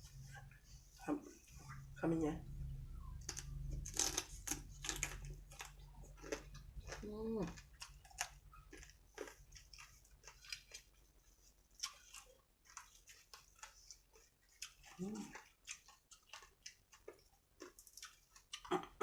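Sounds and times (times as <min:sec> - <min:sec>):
person chewing food: 0:03.0 - 0:19.0.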